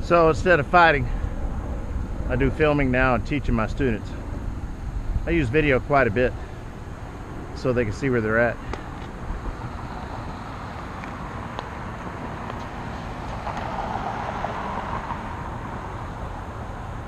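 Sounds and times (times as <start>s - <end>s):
bicycle riding rumble: 0.0s - 17.0s
wind hiss: 0.0s - 17.0s.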